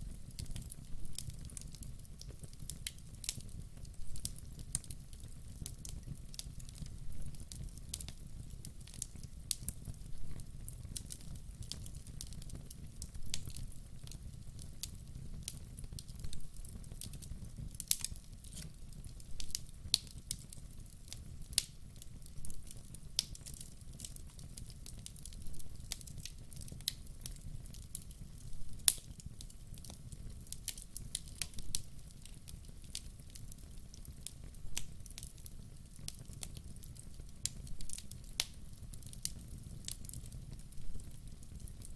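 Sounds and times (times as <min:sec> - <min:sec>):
logs crackling and popping: 0:00.0 - 0:41.9
low rumble of flames: 0:00.0 - 0:41.9.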